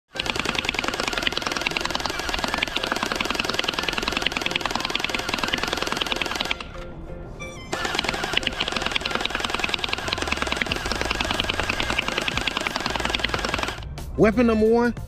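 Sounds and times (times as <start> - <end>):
rapid automatic gunfire: 0.1 - 6.6, 7.8 - 13.8
music: 0.2 - 15.0.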